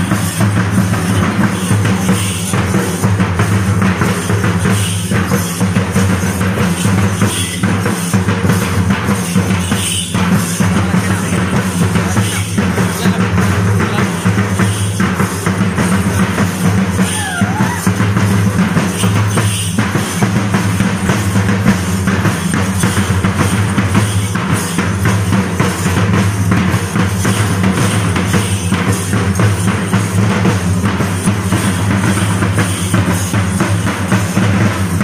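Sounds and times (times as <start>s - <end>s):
fast ensemble drumming: 0.0s - 35.0s.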